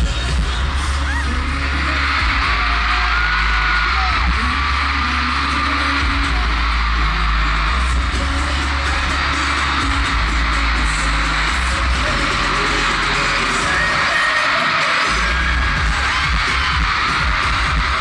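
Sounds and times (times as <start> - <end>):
crowd screaming and cheering: 0.0 - 18.0
pop music over loudspeakers: 0.0 - 18.0.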